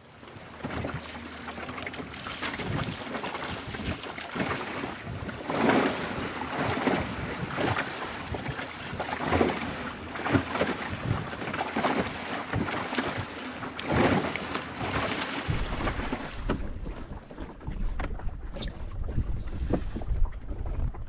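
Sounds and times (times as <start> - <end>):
water splashing against hull: 0.0 - 21.0
wind buffeting microphone: 2.5 - 21.0.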